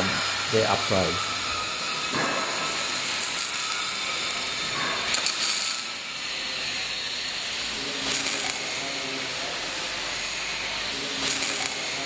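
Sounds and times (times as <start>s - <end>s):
arc welding hiss and crackle: 0.0s - 12.0s.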